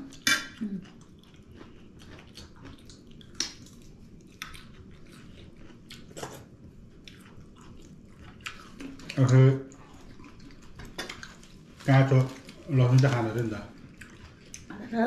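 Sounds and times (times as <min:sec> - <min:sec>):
close chewing and biting: 0:00.0 - 0:14.8.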